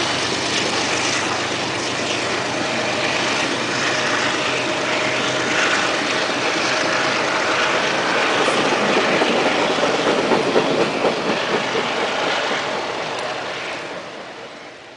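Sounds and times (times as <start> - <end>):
train wheels rumbling on rail: 0.0 - 14.9.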